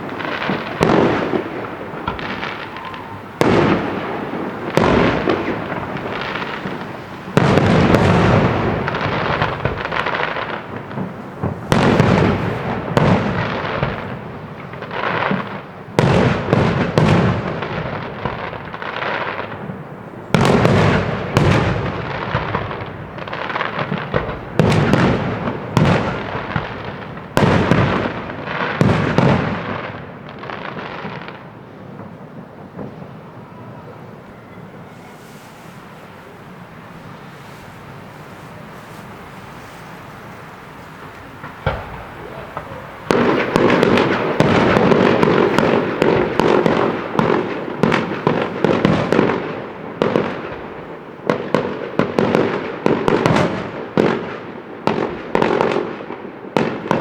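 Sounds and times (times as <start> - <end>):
firework shells bursting: 0.0 - 33.4, 34.0 - 54.2
crackling firework glitter: 0.0 - 57.0.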